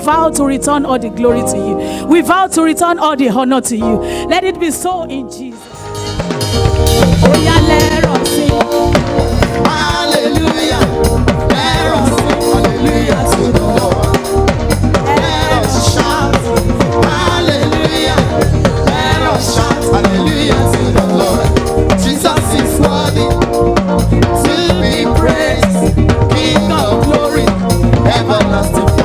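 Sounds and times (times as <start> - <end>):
bass line: 0.0 - 29.0
gospel band music: 0.0 - 29.0
drum kit beat: 5.6 - 29.0.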